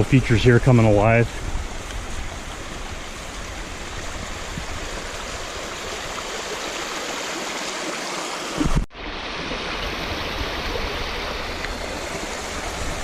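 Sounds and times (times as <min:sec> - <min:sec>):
creek and waterfall rushing: 0:00.0 - 0:13.0.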